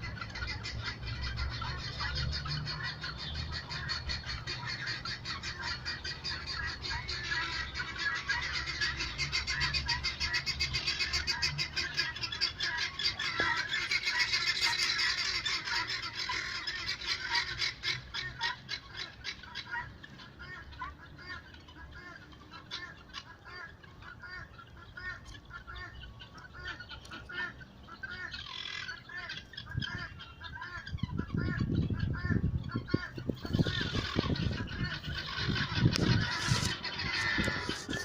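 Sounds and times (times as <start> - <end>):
birds squawking: 0.0 - 38.0.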